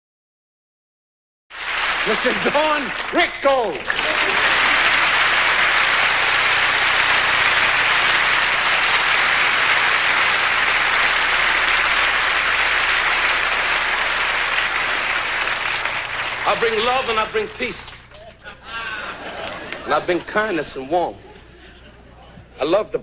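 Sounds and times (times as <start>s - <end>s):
large audience applauding: 1.5s - 20.4s.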